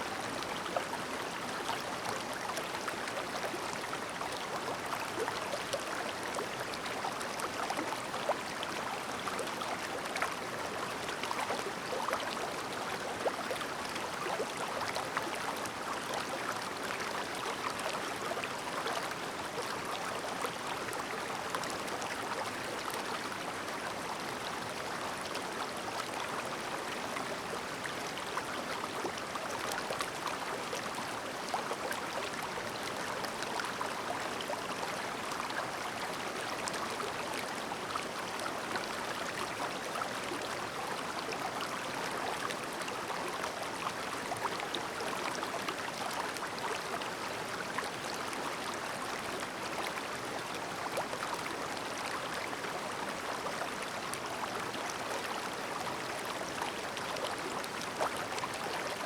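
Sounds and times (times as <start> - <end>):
stream babbling over stones: 0.1 - 59.0.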